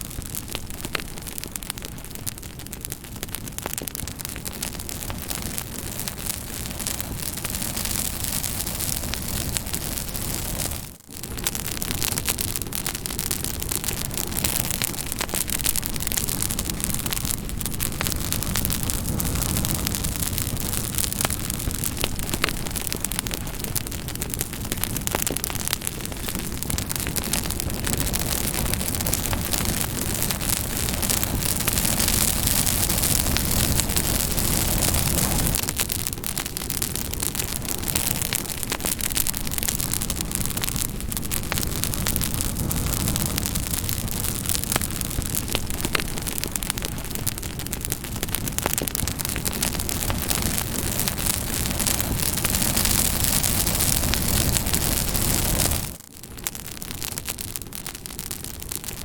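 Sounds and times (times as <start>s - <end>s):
wood crackling and popping: 0.0s - 59.0s
hiss of flame: 0.2s - 56.0s.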